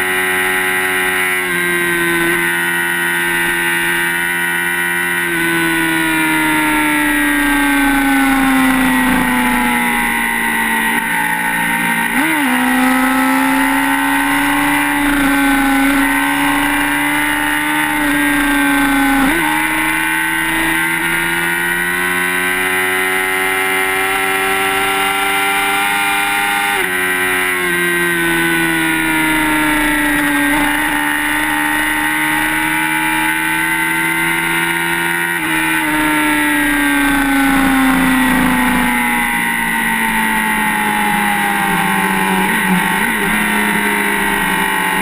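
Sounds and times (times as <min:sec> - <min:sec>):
motorcycle engine running hard: 0:00.0 - 0:45.0.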